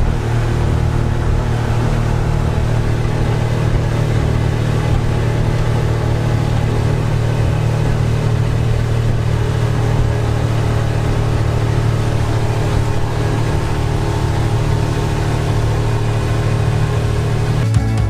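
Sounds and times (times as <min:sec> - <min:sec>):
speedboat engine droning: 0:00.0 - 0:17.8.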